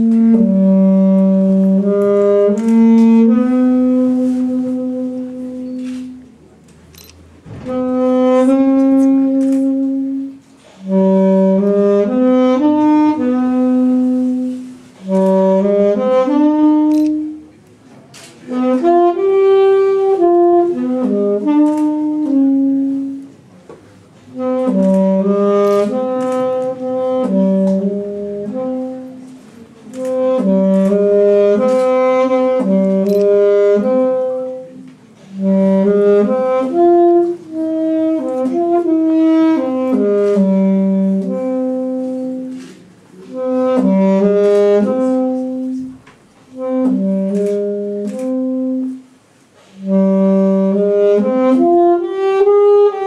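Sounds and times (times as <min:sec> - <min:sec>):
wind instrument solo melody: 0:00.0 - 0:06.3, 0:07.6 - 0:17.5, 0:18.5 - 0:23.4, 0:24.3 - 0:49.1, 0:49.8 - 0:53.0.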